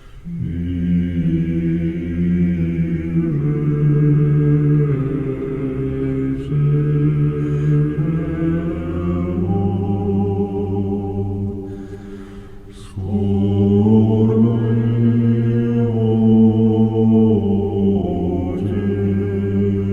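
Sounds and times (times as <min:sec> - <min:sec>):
low male voices chanting: 0:00.2 - 0:19.9.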